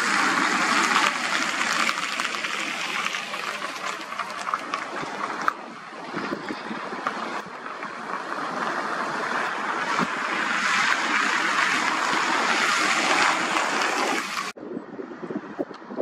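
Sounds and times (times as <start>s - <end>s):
river water rushing: 0.0s - 14.6s
wind: 0.0s - 16.0s.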